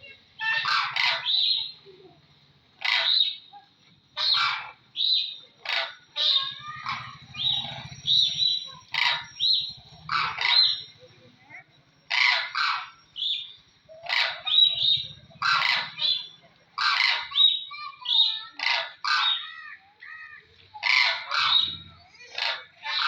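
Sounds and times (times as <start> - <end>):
cranes squawking: 0.0 - 23.0.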